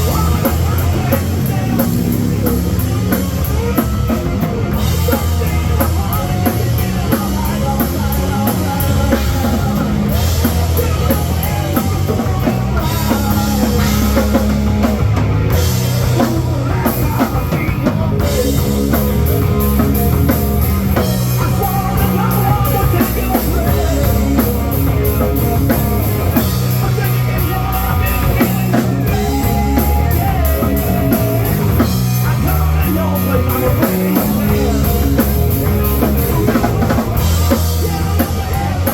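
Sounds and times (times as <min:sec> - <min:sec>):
hard rock band playing: 0:00.0 - 0:38.9.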